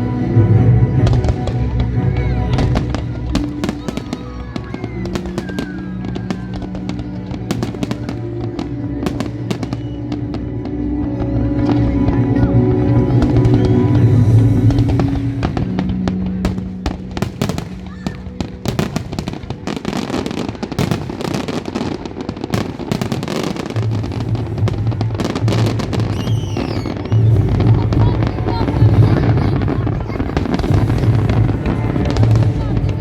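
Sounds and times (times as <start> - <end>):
fireworks crackling and popping: 0.9 - 33.0.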